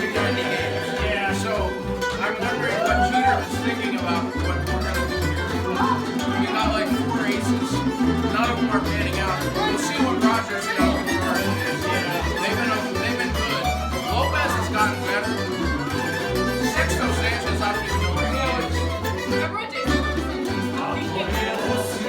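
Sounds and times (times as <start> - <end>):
murmur of chatter: 0.0 - 22.0
plucked bass line: 0.0 - 22.0
plucked string ensemble melody: 0.0 - 22.0.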